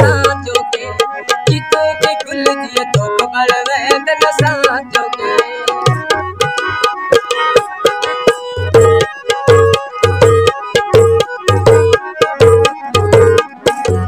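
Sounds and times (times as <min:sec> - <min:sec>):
harmonium melody: 0:00.0 - 0:14.0
tabla strokes: 0:00.0 - 0:14.0.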